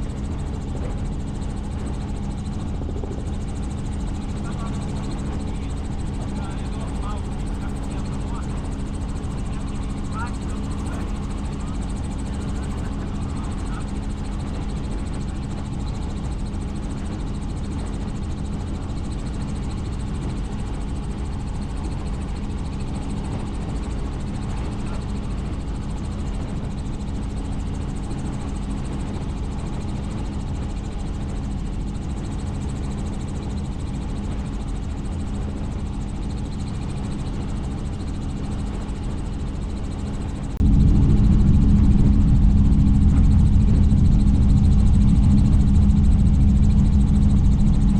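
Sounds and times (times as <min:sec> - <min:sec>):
helicopter flying: 0:00.0 - 0:47.9.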